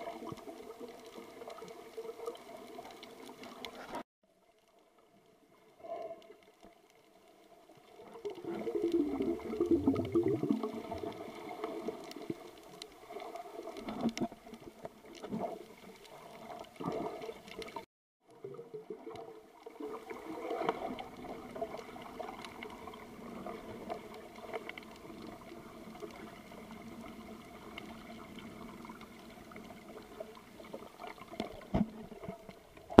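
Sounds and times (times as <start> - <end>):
underwater sloshing and gurgling: 0.0 - 33.0.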